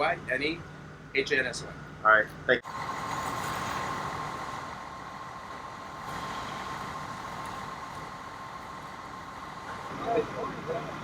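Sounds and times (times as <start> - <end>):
constant high whine: 0.0 - 11.0
fire engine idling: 0.0 - 11.0.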